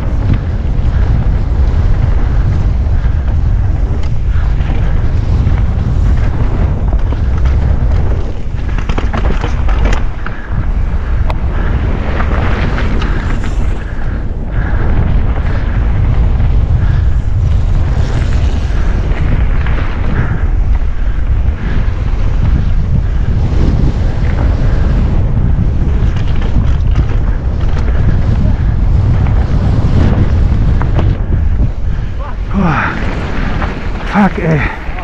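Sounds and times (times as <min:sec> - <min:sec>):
bike knocks and rattles: 0:00.0 - 0:20.4, 0:21.0 - 0:31.7
low rumble of bike tyres: 0:00.0 - 0:35.0
wind buffeting microphone: 0:00.0 - 0:35.0.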